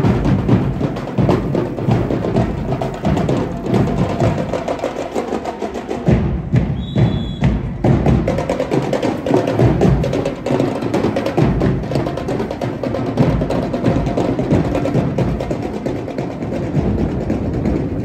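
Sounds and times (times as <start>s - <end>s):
drumline playing fast cadence: 0.0s - 18.0s.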